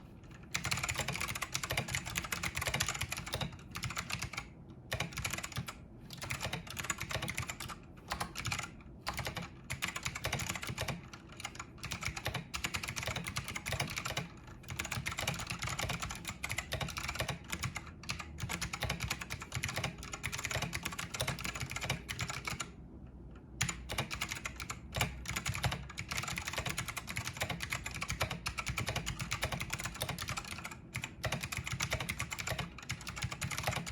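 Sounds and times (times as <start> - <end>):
clicky keyboard typing: 0.4 - 22.7, 23.6 - 33.9.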